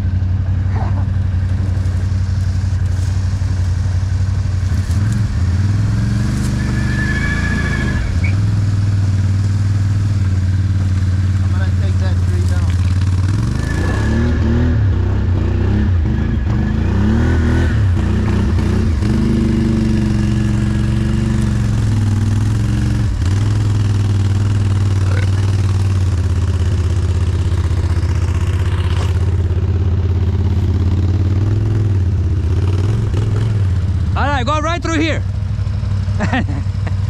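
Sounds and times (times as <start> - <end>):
atv engine idling: 0.0 - 6.0, 8.3 - 13.4, 18.0 - 37.0.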